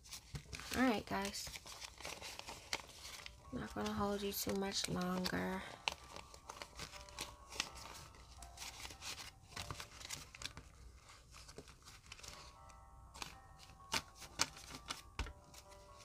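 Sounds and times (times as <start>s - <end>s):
banknotes rustling and snapping: 0.0s - 16.0s
soft background music: 0.0s - 16.0s.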